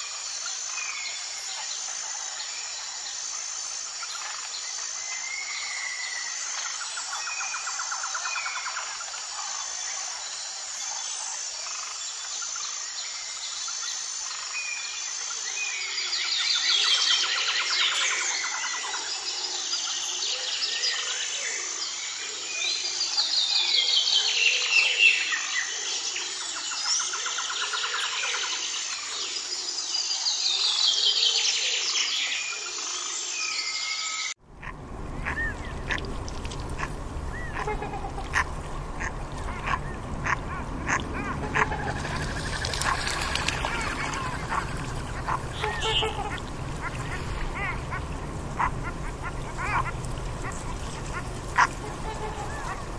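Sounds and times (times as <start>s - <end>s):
chorus of birds singing: 0.0s - 36.0s, 37.2s - 52.9s.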